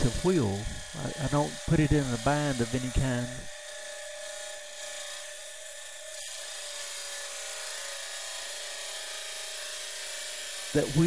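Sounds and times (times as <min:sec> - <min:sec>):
grinding wheel on steel: 0:00.0 - 0:11.0.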